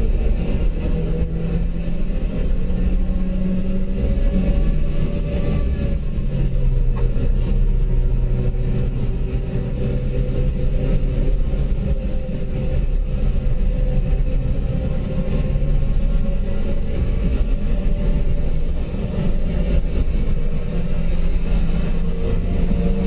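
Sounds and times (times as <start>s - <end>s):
car engine running under load: 0.0s - 23.0s
road and tyre noise: 0.0s - 23.0s.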